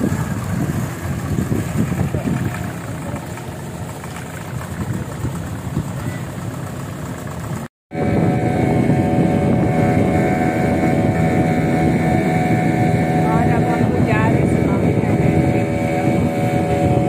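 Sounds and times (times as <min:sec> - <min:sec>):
engine whine: 0:00.0 - 0:17.0
outboard motor running: 0:00.0 - 0:17.0
water: 0:00.0 - 0:17.0
wind: 0:00.0 - 0:17.0.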